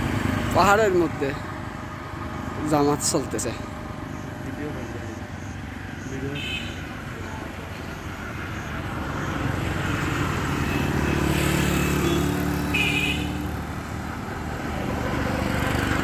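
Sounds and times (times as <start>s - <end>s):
car passing: 0.0s - 16.0s.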